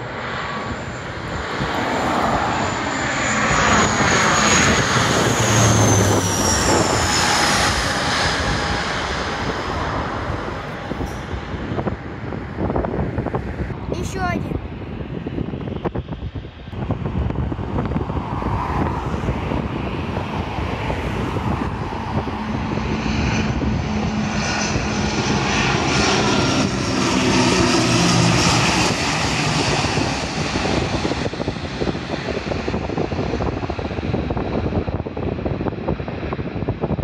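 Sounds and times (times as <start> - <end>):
propeller plane droning overhead: 0.0 - 37.0.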